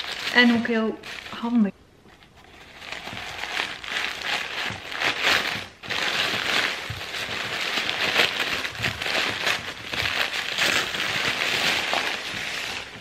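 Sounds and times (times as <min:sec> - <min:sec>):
packing paper crumpling: 0:00.0 - 0:01.6, 0:02.2 - 0:13.0.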